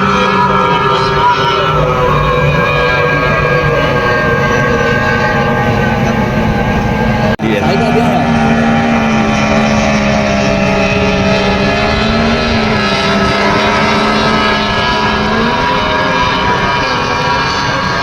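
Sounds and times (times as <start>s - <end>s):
powerboat engine at high revs: 0.0s - 18.0s.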